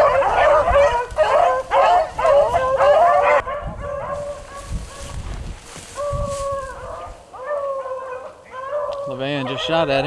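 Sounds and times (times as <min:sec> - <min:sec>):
dogs baying: 0:00.0 - 0:05.1, 0:06.0 - 0:10.0.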